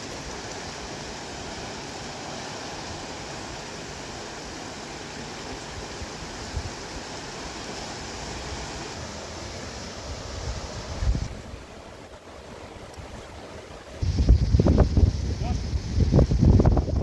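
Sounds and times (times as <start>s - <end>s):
river rushing over rocks: 0.0s - 15.4s.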